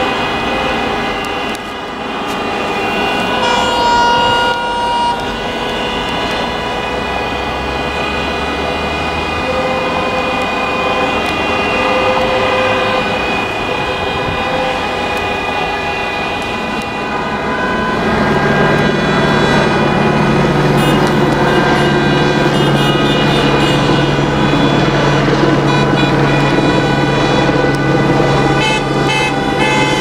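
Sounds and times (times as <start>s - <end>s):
traffic noise: 0.0s - 30.0s
many car horns honking: 0.1s - 7.0s, 8.3s - 30.0s.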